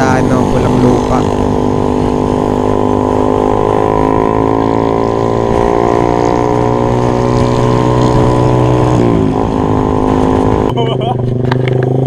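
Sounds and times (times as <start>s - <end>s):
motor scooter engine droning: 0.0s - 12.0s.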